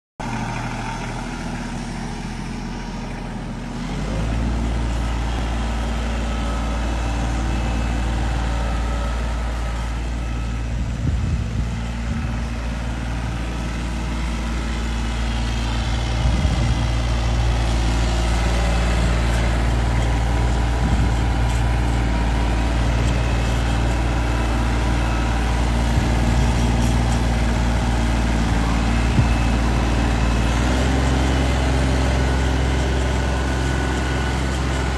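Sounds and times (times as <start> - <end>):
diesel tractor engine running: 0.2 - 34.9.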